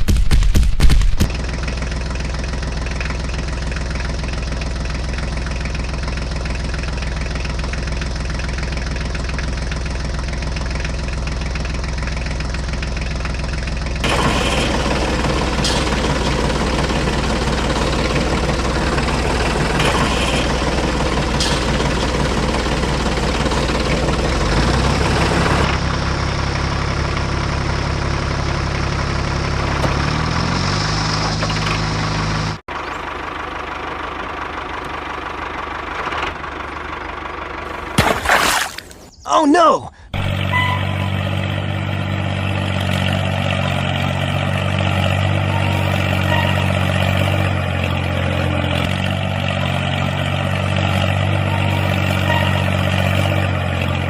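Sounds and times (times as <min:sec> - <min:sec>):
tractor engine knocking idle: 0:00.0 - 0:38.0, 0:41.2 - 0:54.0.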